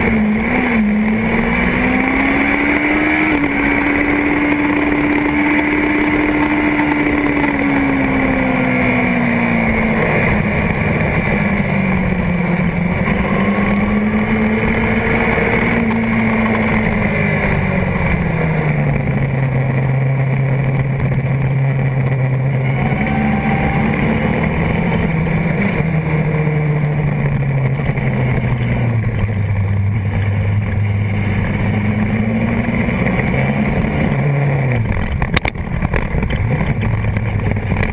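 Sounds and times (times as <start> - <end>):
motorcycle engine revving down: 0.0 - 37.9.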